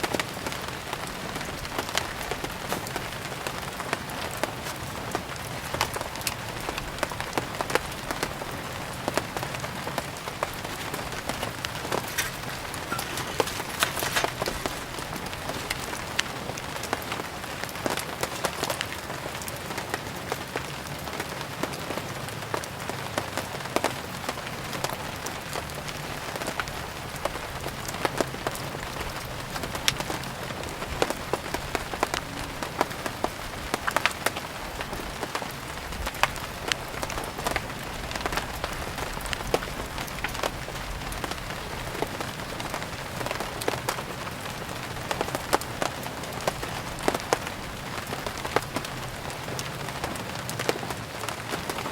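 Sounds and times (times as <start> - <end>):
firewood crackling and popping: 0.0 - 21.8, 22.6 - 51.9
steady rain falling: 0.0 - 51.9.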